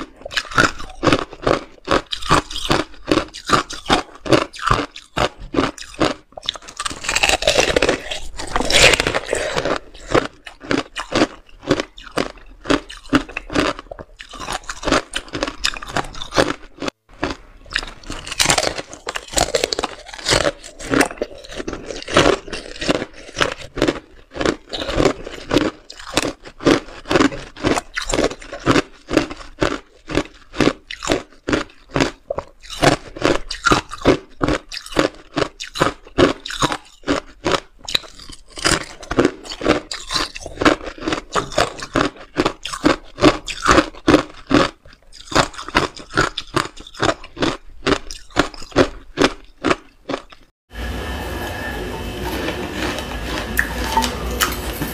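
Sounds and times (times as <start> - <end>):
crunching frozen fruit and ice: 0.0 - 50.5.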